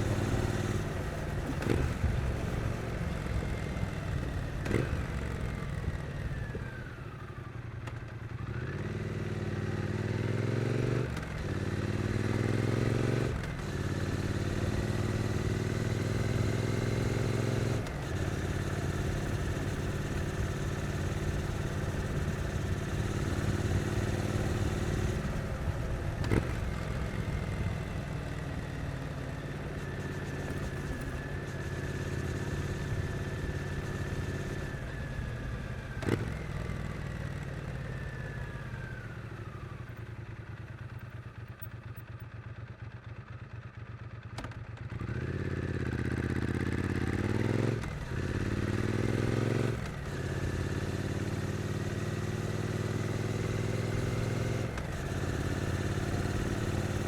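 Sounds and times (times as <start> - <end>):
motorcycle engine in traffic: 0.0 - 57.0.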